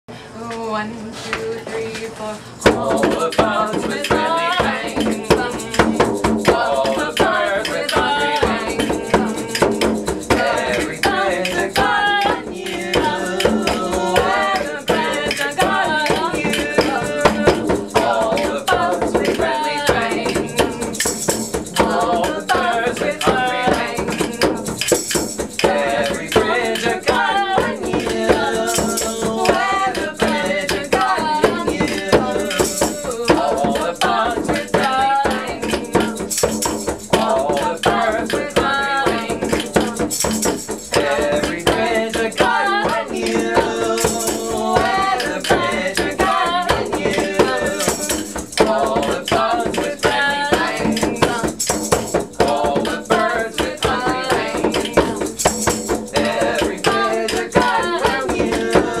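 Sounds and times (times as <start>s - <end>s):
voices singing: 0.4s - 59.0s
rattle shaking: 2.5s - 59.0s
hand drum beating: 2.6s - 59.0s.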